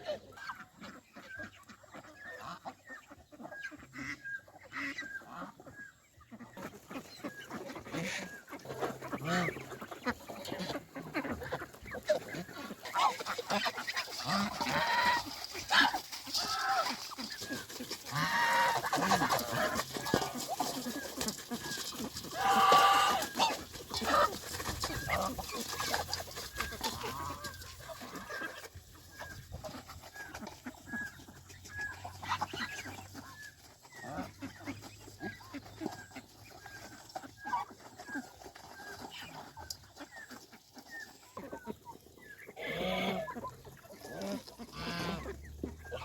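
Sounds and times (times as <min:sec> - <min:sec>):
chickens clucking: 0:00.0 - 0:46.0
drawn-out bird call: 0:00.3 - 0:46.0.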